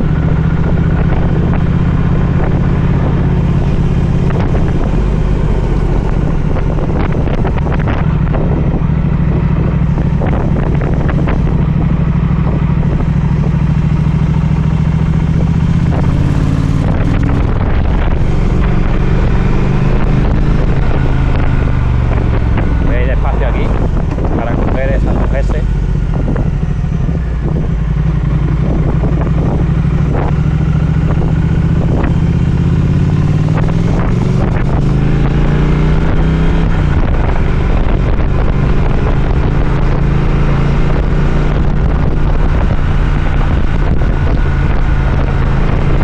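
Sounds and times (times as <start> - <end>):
motorcycle engine cruising: 0.0 - 46.0
wind buffeting microphone: 0.0 - 46.0.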